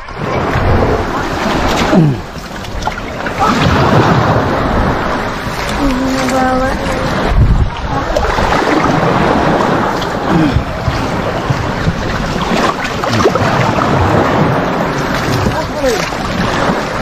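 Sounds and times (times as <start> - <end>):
water splashing: 0.0 - 17.0
wind buffeting microphone: 0.0 - 17.0.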